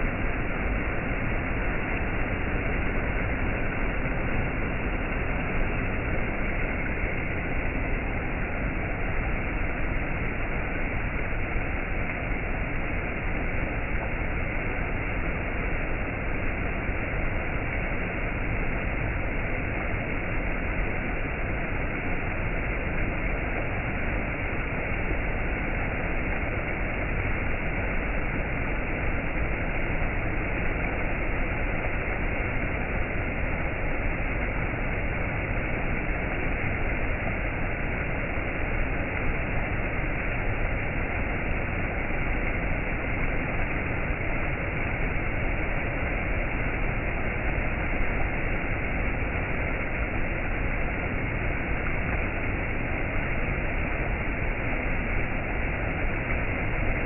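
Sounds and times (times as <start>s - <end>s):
stream water over rocks: 0.0s - 57.0s.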